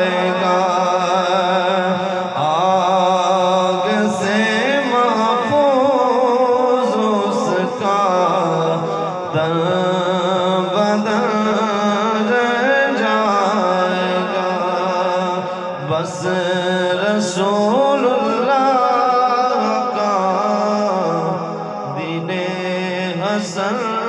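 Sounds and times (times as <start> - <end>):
man singing into a microphone: 0.0 - 24.0.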